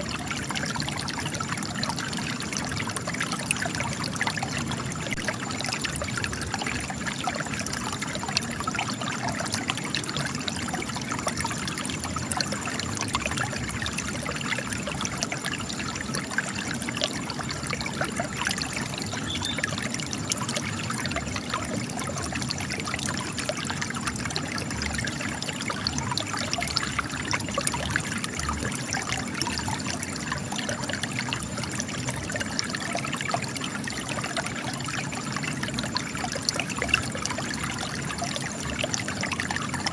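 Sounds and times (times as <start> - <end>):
spring water trickling and splashing: 0.0 - 39.9.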